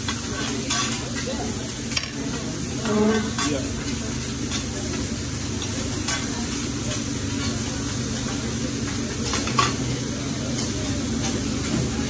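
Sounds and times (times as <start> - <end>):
vegetables sizzling on a griddle: 0.0 - 12.0.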